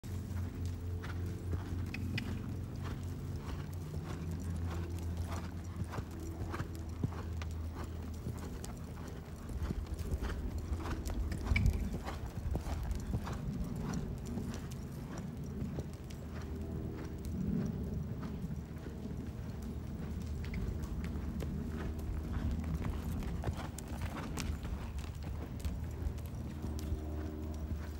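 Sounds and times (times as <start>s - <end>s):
hoofbeats on sand: 0.0s - 27.9s
low steady hum: 0.0s - 27.9s.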